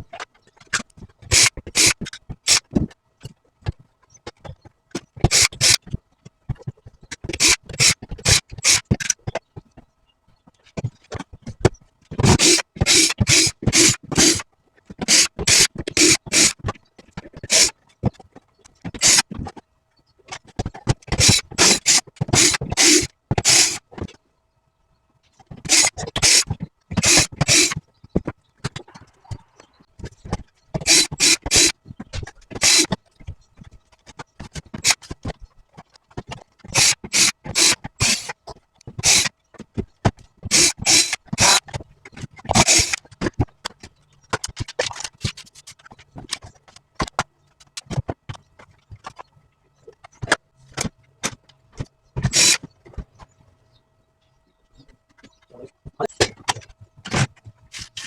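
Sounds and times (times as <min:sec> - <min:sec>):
plastic parts clicking and scraping: 0:00.0 - 0:24.3, 0:25.2 - 0:53.6, 0:54.2 - 0:58.0.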